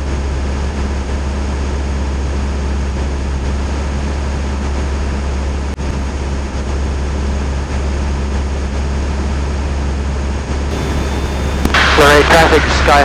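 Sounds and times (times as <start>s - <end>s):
light aircraft engine drone in cabin: 0.0s - 13.0s.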